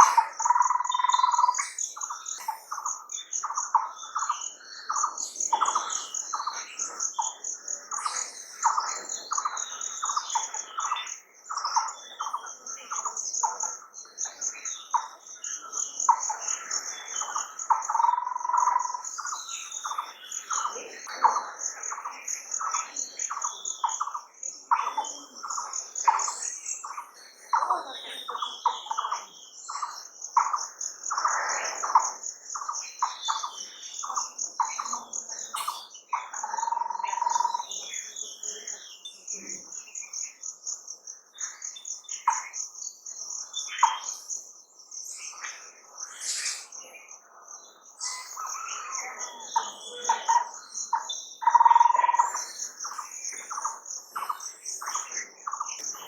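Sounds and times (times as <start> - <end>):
insect pulsing trill: 0.0 - 13.6, 16.0 - 20.8, 21.6 - 37.9, 39.8 - 56.0
birds chirping in chorus: 0.0 - 56.0.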